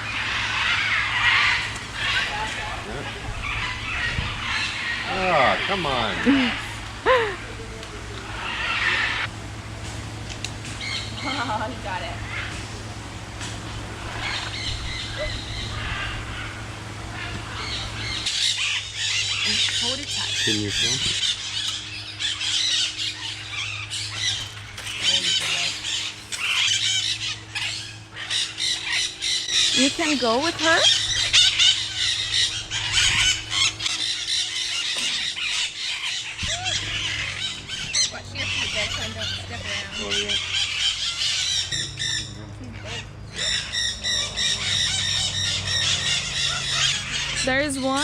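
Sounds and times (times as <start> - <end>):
birds calling and squawking: 0.0 - 48.0
low steady hum: 0.0 - 48.0.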